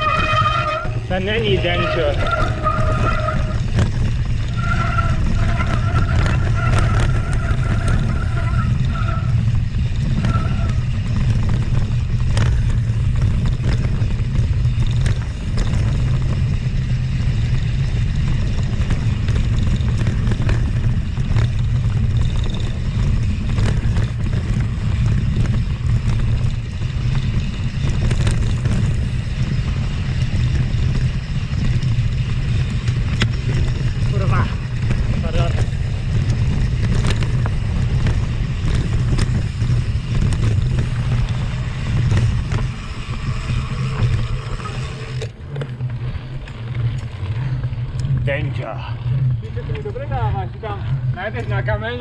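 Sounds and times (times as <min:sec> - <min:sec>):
bike knocks and rattles: 0:00.0 - 0:52.0
wind and rolling rumble on microphone: 0:00.0 - 0:52.0.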